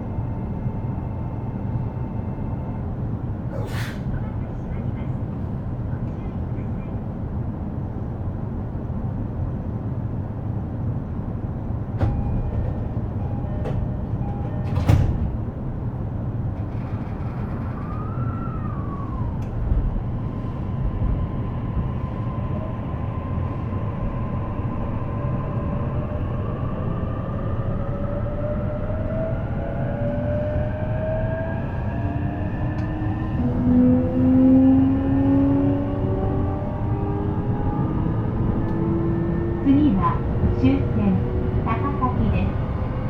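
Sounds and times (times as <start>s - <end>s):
train wheels rumbling on rails: 2.9s - 43.0s.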